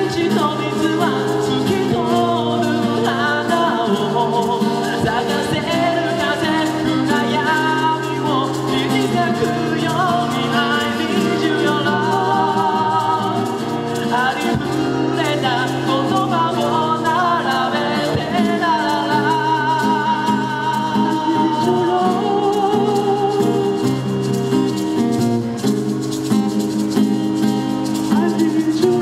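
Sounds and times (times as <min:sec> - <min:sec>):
man singing: 0:00.0 - 0:24.4, 0:28.0 - 0:29.0
acoustic guitar strumming: 0:00.0 - 0:29.0.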